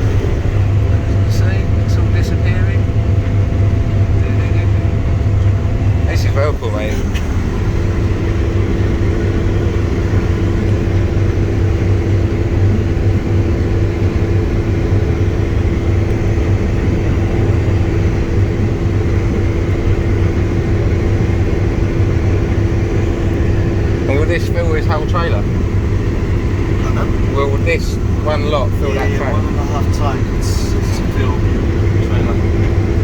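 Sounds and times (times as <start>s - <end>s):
combine harvester engine drone: 0.0s - 33.0s
mid-pitched hum: 0.0s - 33.0s.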